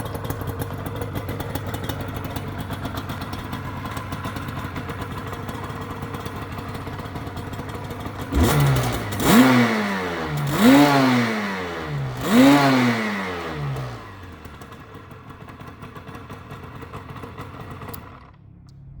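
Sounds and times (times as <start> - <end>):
two-stroke motorcycle engine revving: 0.0 - 18.4.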